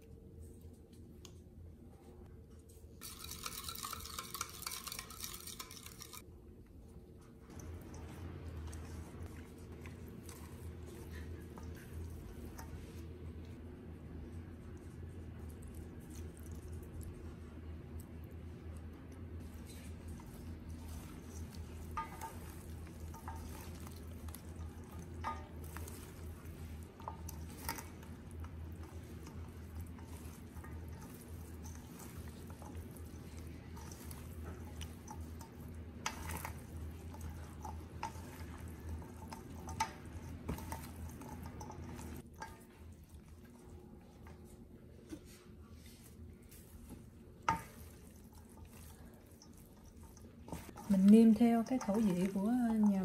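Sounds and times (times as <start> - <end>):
steady low hum: 0.0 - 53.0
salad squishing in steel bowl: 2.6 - 53.0.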